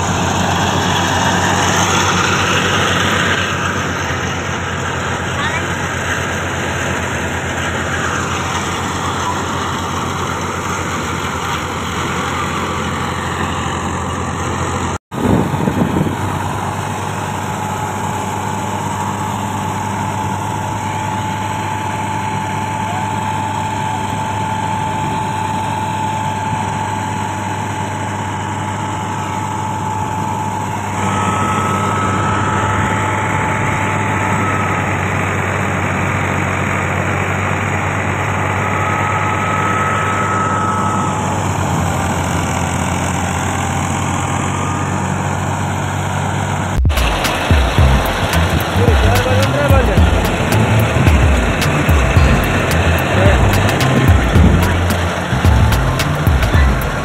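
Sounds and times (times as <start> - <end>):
engine drone: 0.0 - 57.0
high whine: 0.0 - 57.0.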